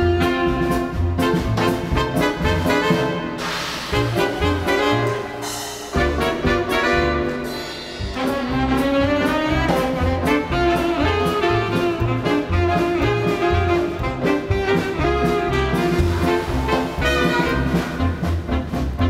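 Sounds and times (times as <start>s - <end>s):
swing jazz band music: 0.0s - 19.0s.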